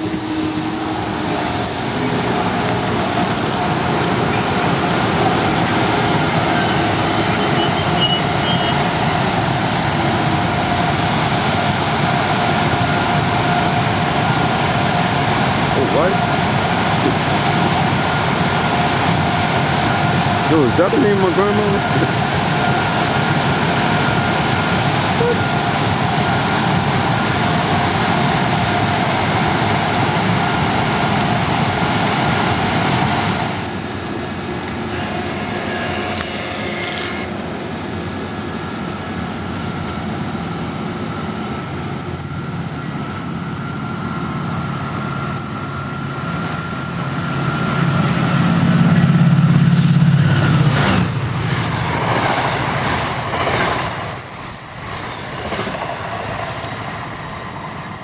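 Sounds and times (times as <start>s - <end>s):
train wheels rumbling on rail: 0.0s - 36.4s, 37.2s - 58.0s
low hum of approaching train: 0.0s - 58.0s.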